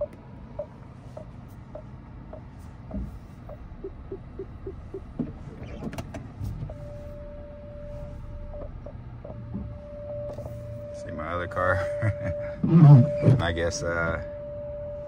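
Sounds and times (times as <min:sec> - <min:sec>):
steady warning tone: 0:00.0 - 0:05.8, 0:06.5 - 0:15.0
car warning beeps: 0:00.0 - 0:15.0.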